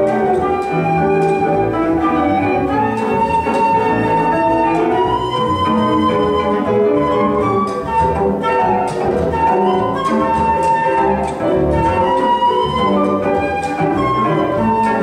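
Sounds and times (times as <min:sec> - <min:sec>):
electric guitar: 0:00.0 - 0:15.0
flute lead line: 0:00.0 - 0:15.0
piano: 0:00.0 - 0:15.0.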